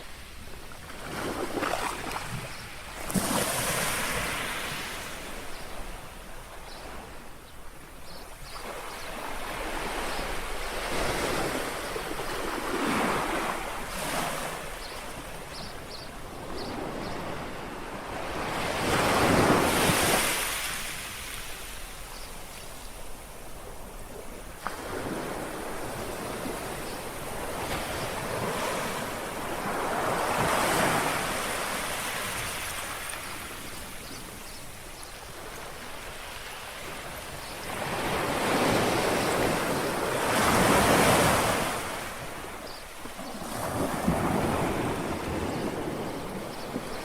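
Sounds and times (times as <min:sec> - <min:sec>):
small waves lapping on shore: 0:00.0 - 0:47.0.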